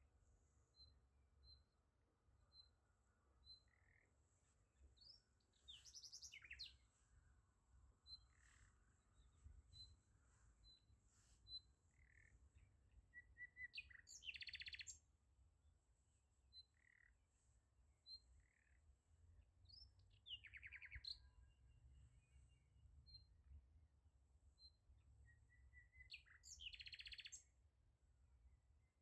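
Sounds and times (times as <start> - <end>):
faint small birds chirping: 0.0 - 29.0.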